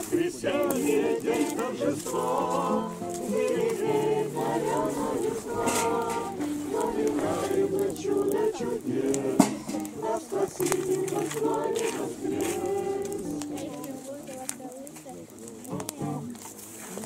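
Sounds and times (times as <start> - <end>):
group singing unaccompanied: 0.0 - 13.9.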